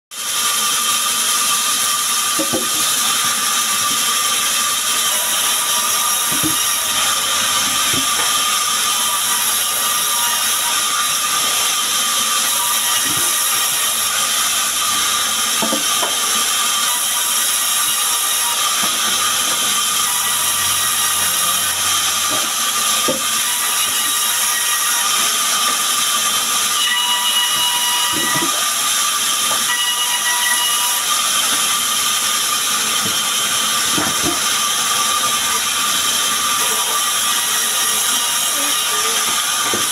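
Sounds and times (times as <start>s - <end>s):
band saw whining: 0.2s - 39.9s.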